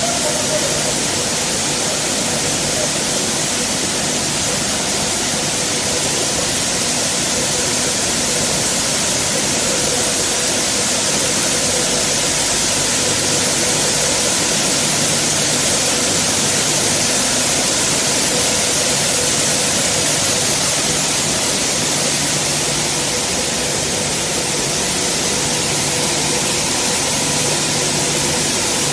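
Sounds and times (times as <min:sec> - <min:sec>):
machine hum: 0:00.0 - 0:28.9
milling machinery running: 0:00.0 - 0:28.9.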